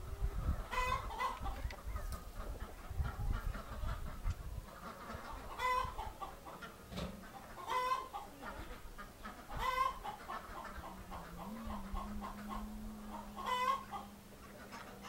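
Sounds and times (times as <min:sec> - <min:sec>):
wind rumble on microphone: 0:00.0 - 0:06.3, 0:08.6 - 0:14.4
chickens clucking: 0:00.0 - 0:15.0.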